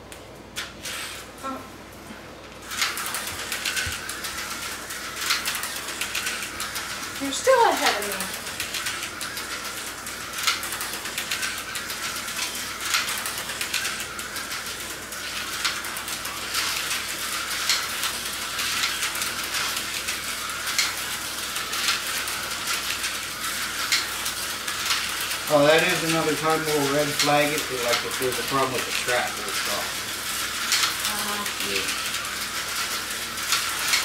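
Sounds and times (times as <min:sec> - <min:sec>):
slot car motors whirring: 0:02.6 - 0:34.0.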